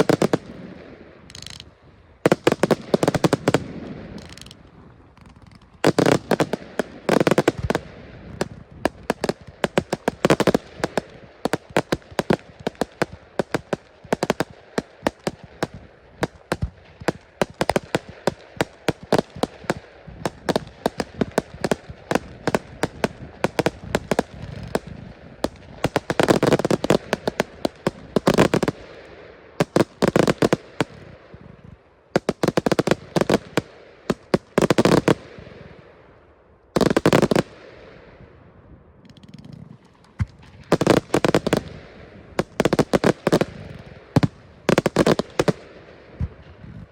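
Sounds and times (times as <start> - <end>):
fireworks bangs and crackles: 0.0 - 36.1, 36.7 - 46.9.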